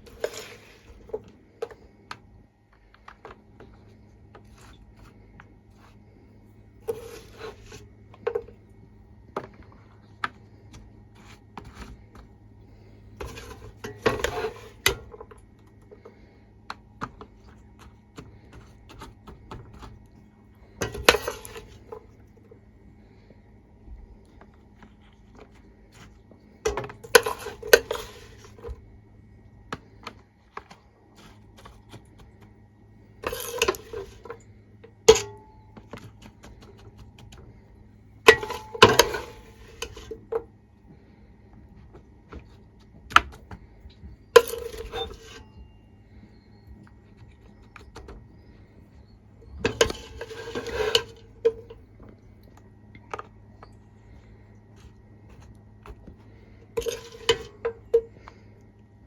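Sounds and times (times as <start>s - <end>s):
utensil scraping a mixing bowl: 0.0s - 1.9s, 3.0s - 23.3s, 24.2s - 40.6s, 41.2s - 52.3s, 53.1s - 58.4s.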